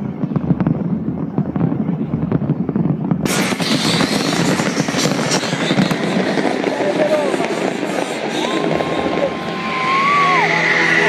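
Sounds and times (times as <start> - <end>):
crackling firework shells: 0.0 - 11.0
fireworks booming: 0.0 - 11.0.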